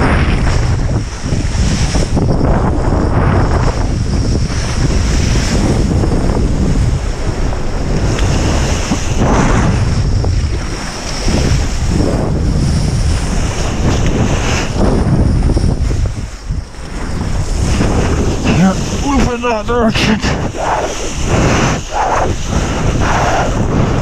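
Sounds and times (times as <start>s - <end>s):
rushing water: 0.0s - 24.0s
wind buffeting microphone: 0.0s - 24.0s.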